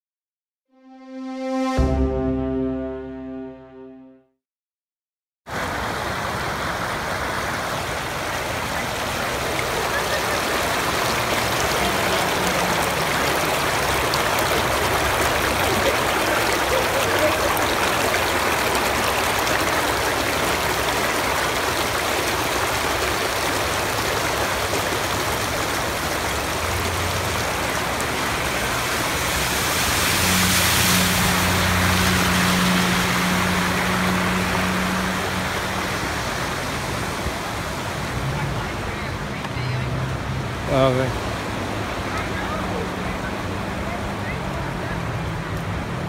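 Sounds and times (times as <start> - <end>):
water gushing across street: 5.5 - 46.0.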